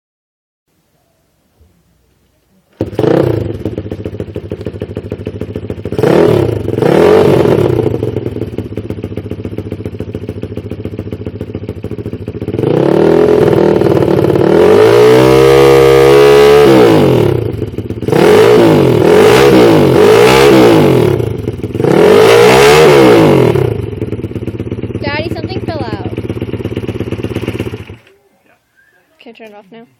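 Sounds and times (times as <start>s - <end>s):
small motorcycle engine revving: 2.8s - 28.1s.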